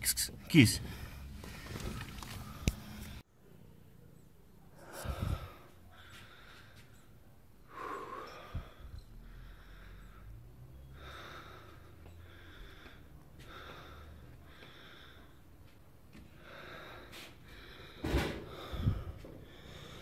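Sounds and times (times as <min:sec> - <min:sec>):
person breathing heavily: 0:00.8 - 0:03.2, 0:04.7 - 0:07.0, 0:07.6 - 0:20.0.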